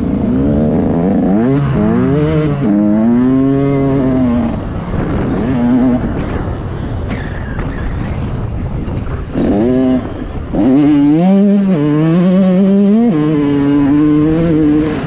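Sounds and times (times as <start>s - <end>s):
motorbike engine revving: 0.0s - 6.6s, 9.0s - 15.0s.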